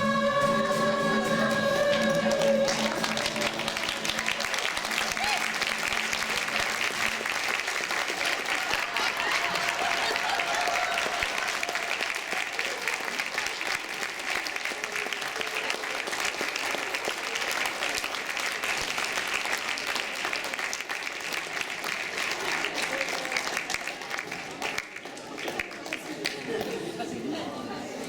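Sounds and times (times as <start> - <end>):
audience applauding: 0.0 - 27.3.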